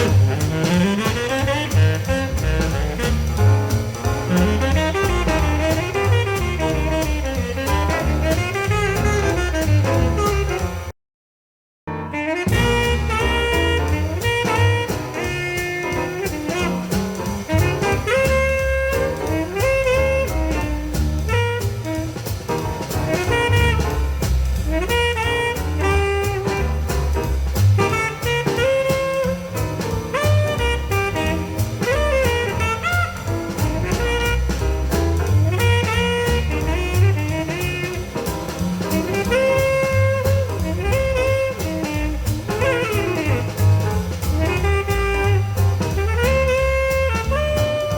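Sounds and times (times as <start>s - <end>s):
bass: 0.0s - 10.9s, 11.9s - 47.9s
drum kit: 0.0s - 10.9s, 11.9s - 47.9s
saxophone: 0.0s - 10.9s, 12.0s - 47.9s.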